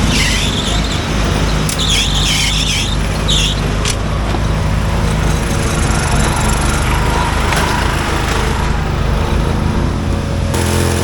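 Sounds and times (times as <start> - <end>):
high wavering squeals: 0.0 - 10.6
riding lawn mower engines: 0.0 - 11.0.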